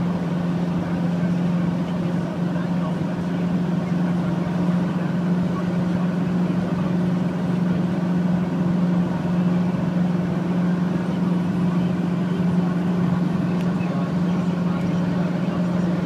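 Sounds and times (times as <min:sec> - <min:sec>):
vehicle driving at speed: 0:00.0 - 0:16.0.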